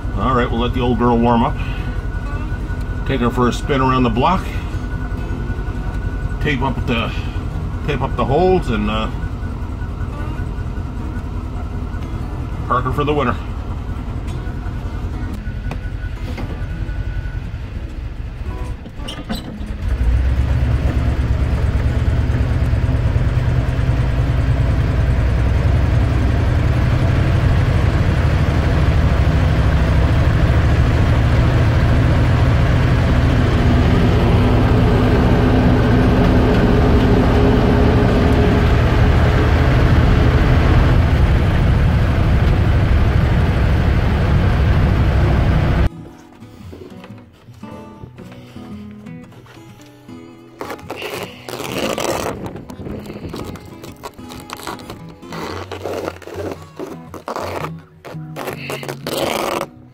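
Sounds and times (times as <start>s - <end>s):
vehicle engine and road rumble: 0.0s - 45.9s, 50.5s - 59.9s.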